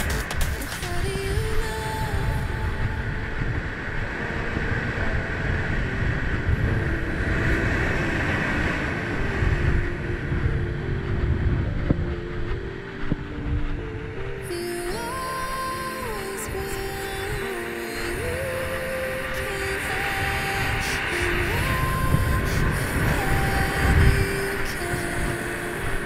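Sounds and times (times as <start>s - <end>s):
waves and surf hissing: 0.0s - 26.0s
wind buffeting microphone: 0.0s - 26.0s.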